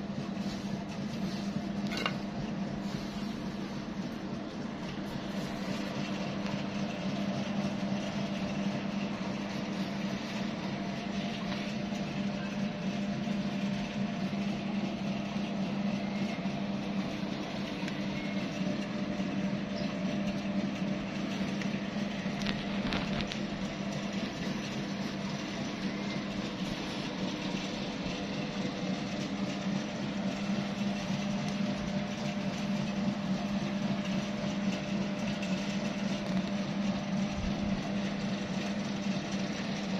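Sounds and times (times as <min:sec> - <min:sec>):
machine humming: 0:00.0 - 0:39.9.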